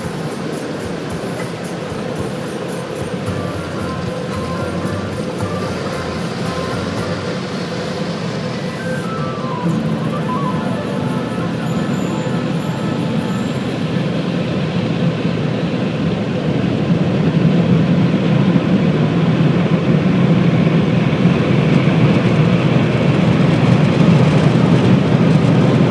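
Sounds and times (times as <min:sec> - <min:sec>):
car wash machinery rushing: 0:00.0 - 0:25.9.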